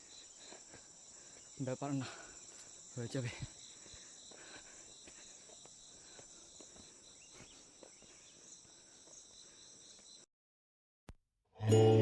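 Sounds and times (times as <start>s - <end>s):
high-pitched insect chorus: 0.0s - 10.2s.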